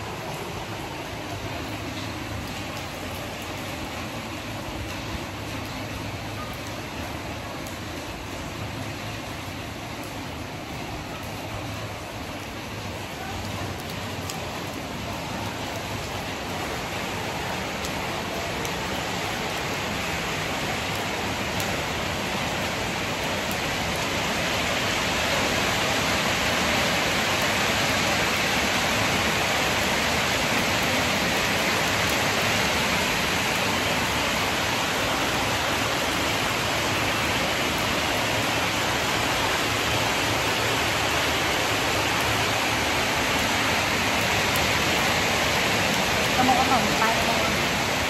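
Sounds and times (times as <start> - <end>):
rain on a tiled patio: 0.0 - 48.0.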